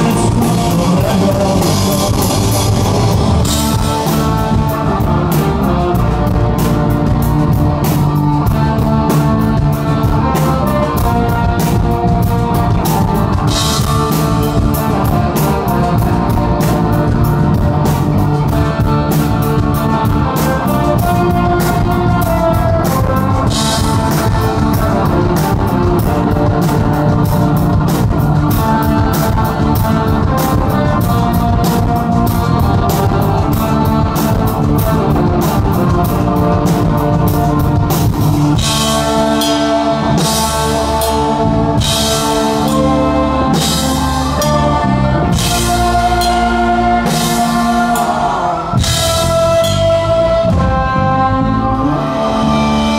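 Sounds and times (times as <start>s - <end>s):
drum kit beat: 0.0s - 52.9s
electric guitar: 0.0s - 52.9s.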